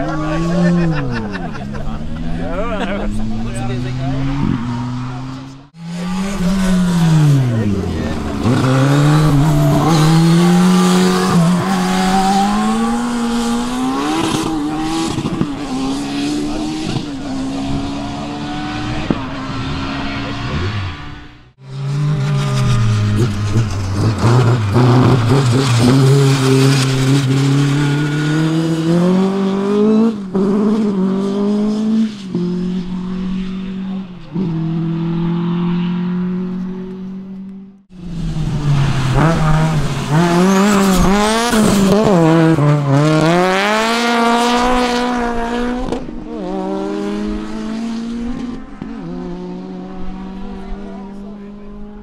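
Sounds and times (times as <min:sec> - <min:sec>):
car engine revving hard: 0:00.0 - 0:52.0
race car engines at full throttle: 0:00.0 - 0:52.0.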